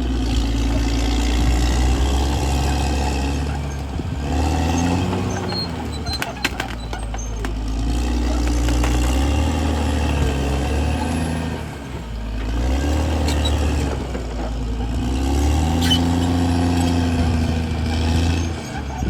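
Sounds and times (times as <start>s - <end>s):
bulldozer diesel engine working: 0.0s - 19.0s.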